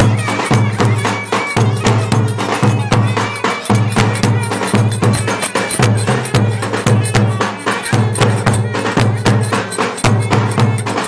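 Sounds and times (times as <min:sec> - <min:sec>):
busy percussion clicking strokes: 0:00.0 - 0:11.0
folk dance music on clarinets: 0:00.0 - 0:11.0.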